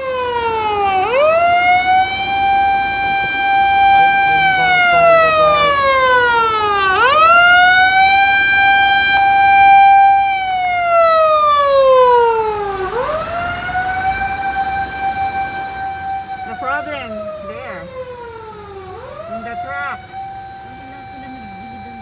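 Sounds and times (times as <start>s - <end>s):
fire truck siren wailing: 0.0s - 22.0s.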